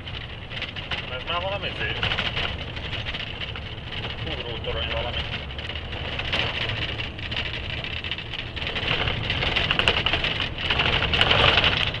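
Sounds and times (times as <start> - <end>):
cab rattling: 0.0 - 12.0
gravel crackling under tyres: 0.0 - 12.0
truck engine rumble: 0.0 - 12.0.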